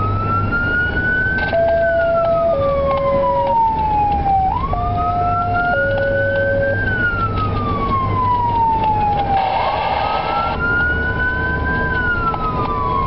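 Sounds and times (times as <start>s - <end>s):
siren wailing: 0.0s - 13.0s
vehicle engine and road rumble: 0.0s - 13.0s.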